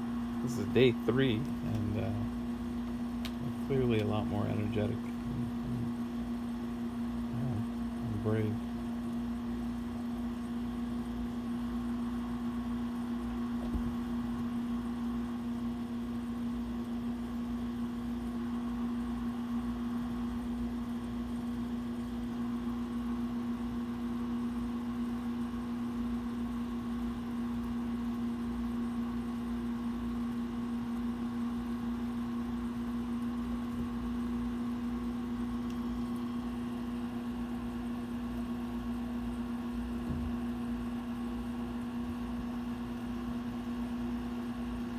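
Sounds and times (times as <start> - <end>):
mechanical motor hum: 0.0 - 44.9.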